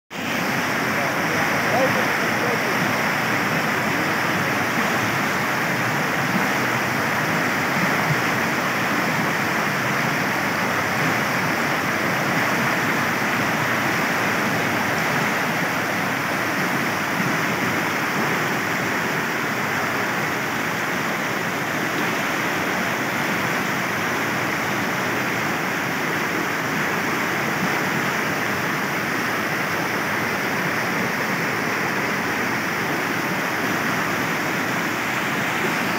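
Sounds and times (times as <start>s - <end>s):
floodwater rushing: 0.1s - 35.9s.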